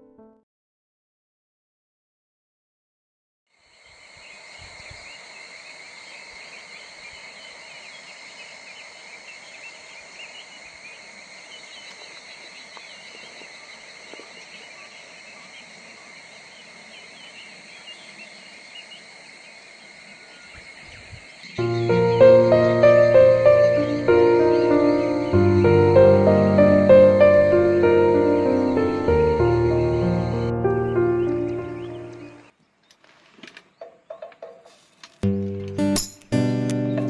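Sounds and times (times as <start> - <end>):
insects droning: 3.5 - 34.4
insects chirping: 3.5 - 37.0.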